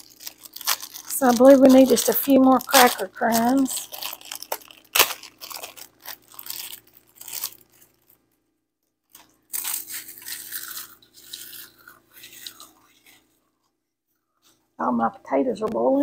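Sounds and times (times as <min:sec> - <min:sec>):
crackers crunching: 0:00.0 - 0:08.4, 0:09.0 - 0:13.4
wrapper crinkling: 0:00.0 - 0:13.4.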